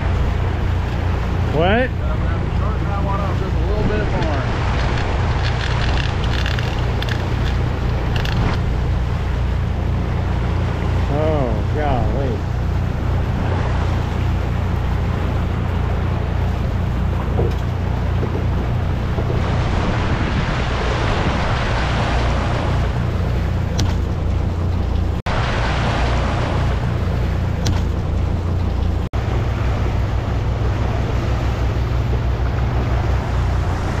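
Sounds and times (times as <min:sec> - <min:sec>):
boat engine droning: 0:00.0 - 0:34.0
water rushing and churning: 0:00.0 - 0:34.0.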